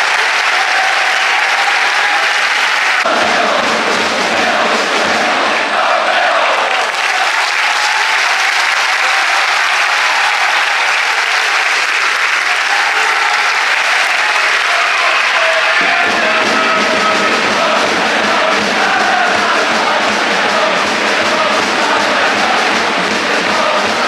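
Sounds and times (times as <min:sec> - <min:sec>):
crowd clapping: 0:00.0 - 0:24.0
crowd singing: 0:00.0 - 0:24.0.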